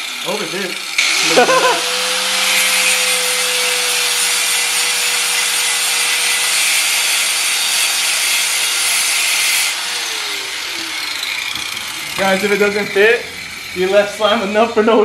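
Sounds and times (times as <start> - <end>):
electric grinder grinding: 0.0 - 15.0.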